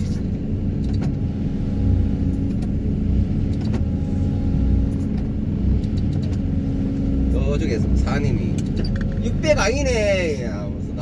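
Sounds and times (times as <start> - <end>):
excavator low machine hum: 0.0 - 11.0.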